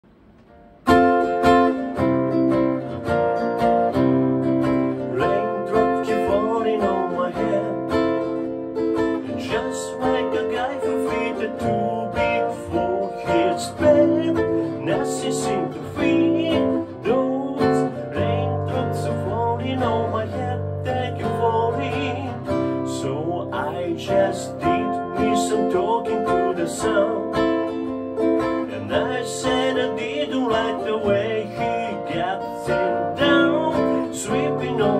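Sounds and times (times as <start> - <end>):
acoustic guitar strumming: 0.1 - 34.9
man singing: 4.9 - 8.4, 9.0 - 34.9.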